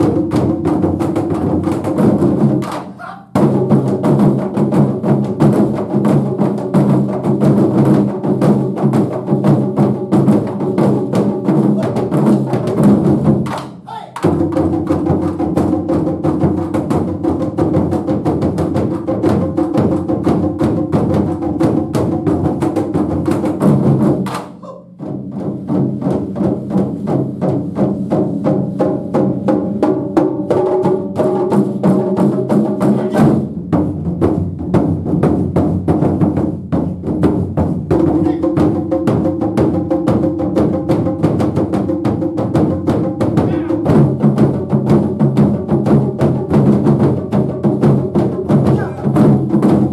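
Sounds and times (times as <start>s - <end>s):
drum ensemble playing: 0.0s - 49.9s.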